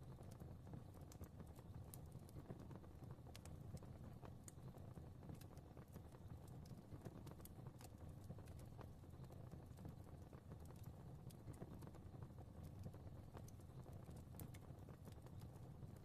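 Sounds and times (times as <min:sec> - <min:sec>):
low rumble of flames: 0:00.0 - 0:16.0.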